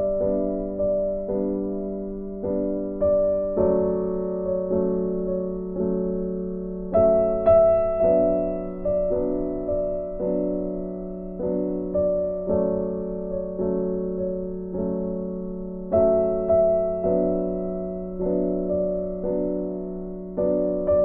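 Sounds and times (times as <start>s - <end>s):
gentle piano chords: 0.0s - 21.0s.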